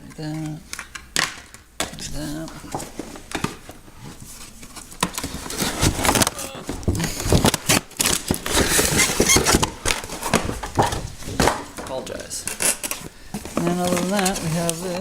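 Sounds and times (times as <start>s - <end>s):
plastic attachments clattering: 0.0s - 15.0s
plastic packaging crinkling: 2.4s - 15.0s.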